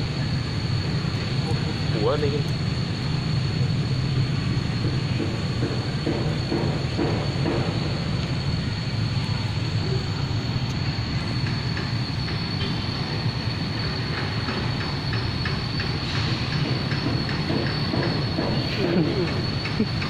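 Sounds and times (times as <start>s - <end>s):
steady rumbling: 0.0s - 20.0s
thin high-pitched whine: 0.0s - 20.0s.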